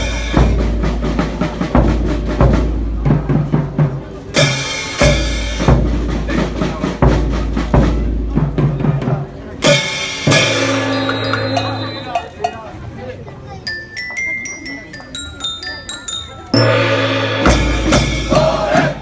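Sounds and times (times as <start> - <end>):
festival drumming: 0.0 - 12.8, 13.7 - 19.0.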